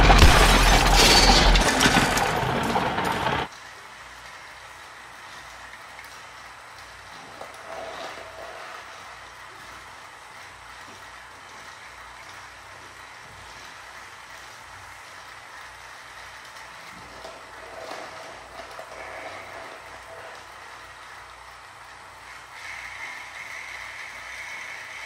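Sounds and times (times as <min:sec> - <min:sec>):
toy train motors running: 0:00.9 - 0:25.0.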